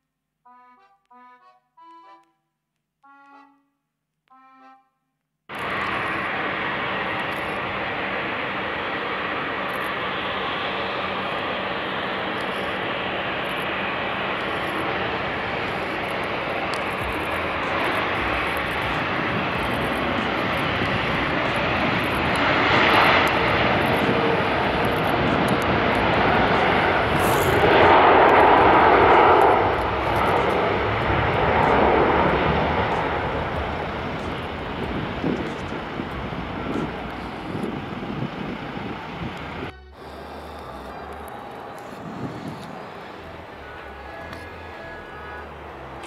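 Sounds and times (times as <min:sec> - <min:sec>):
jet airliner taking off: 0:05.5 - 0:46.0.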